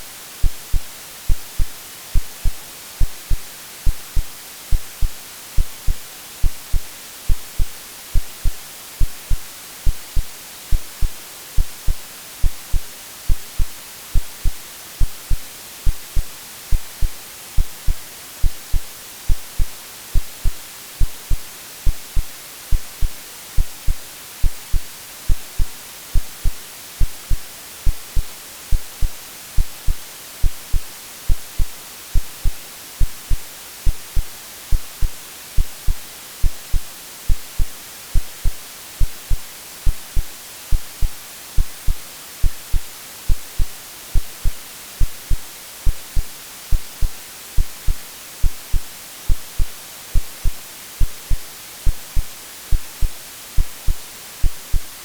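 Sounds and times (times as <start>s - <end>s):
white noise hiss: 0.0s - 55.0s
heartbeat thumps: 0.4s - 54.9s.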